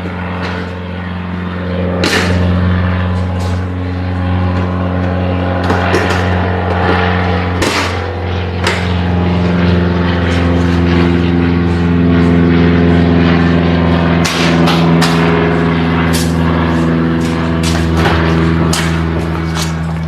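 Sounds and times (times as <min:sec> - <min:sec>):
loud mechanical drone: 0:00.0 - 0:20.0.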